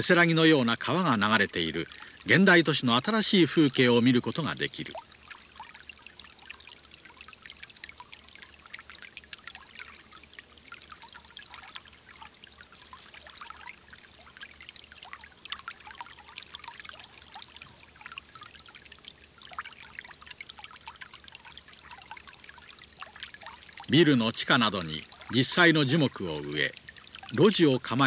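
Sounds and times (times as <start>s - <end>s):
stream trickling over stones: 0.0s - 28.0s.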